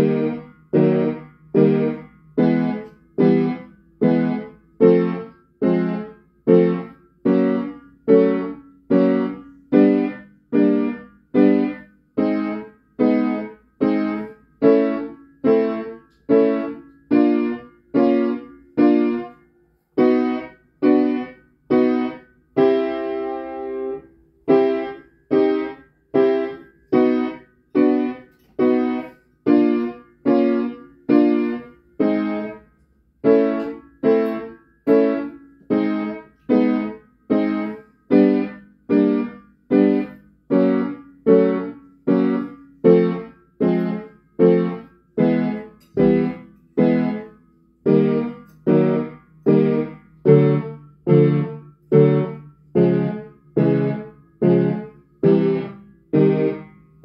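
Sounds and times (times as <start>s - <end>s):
piano block chords: 0.0s - 57.0s.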